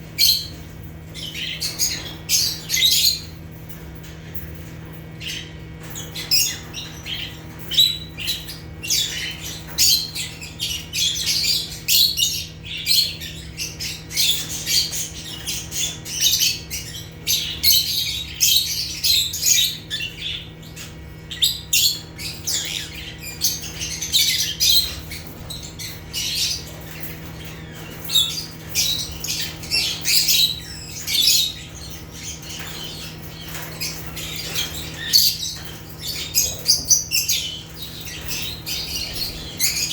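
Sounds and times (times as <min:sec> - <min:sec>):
lovebirds chattering shrilly: 0:00.0 - 0:39.9.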